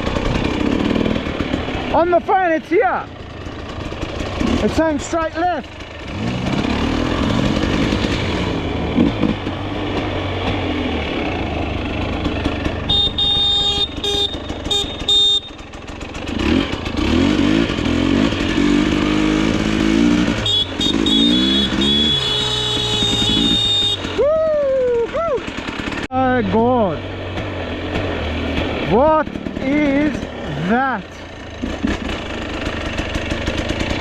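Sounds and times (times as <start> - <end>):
dirt bike engine revving: 0.0 - 24.3, 25.3 - 34.0.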